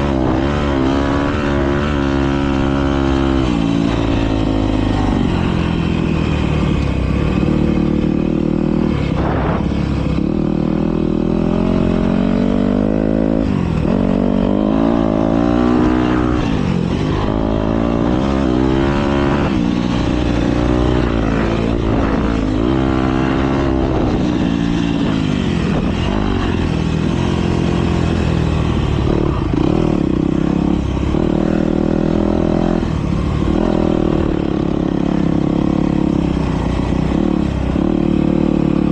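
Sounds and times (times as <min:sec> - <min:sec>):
motocross bikes revving past: 0:00.0 - 0:38.9.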